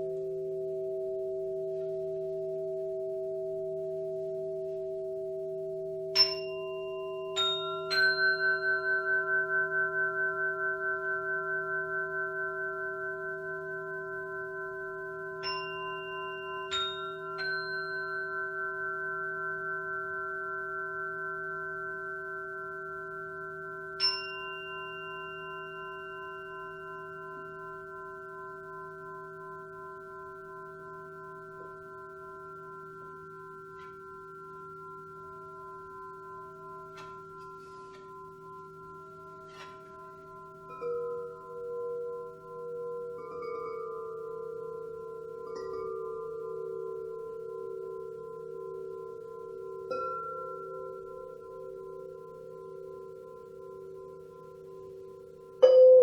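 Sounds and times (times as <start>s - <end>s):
singing bowls ringing: 0.0s - 56.0s.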